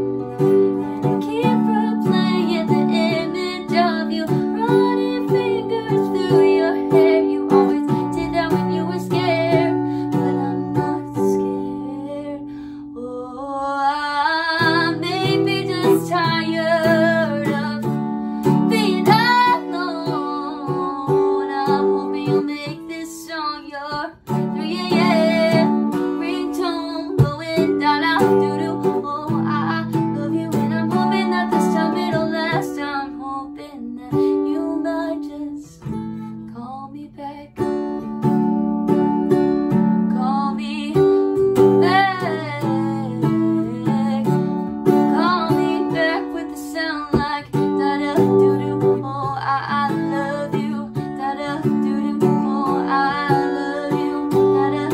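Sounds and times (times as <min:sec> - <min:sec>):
acoustic guitar: 0:00.0 - 0:54.9
woman singing: 0:00.0 - 0:54.9.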